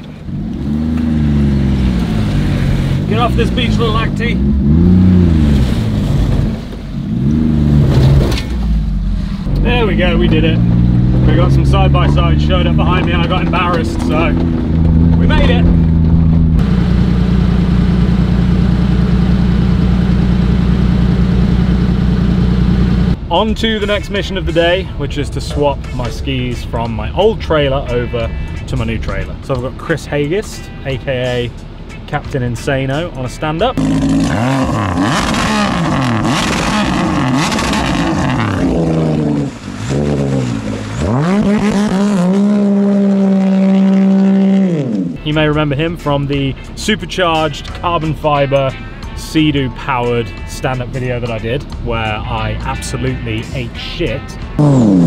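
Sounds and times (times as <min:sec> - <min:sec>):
car engine running: 0:00.0 - 0:30.4, 0:33.6 - 0:47.5, 0:54.5 - 0:55.0.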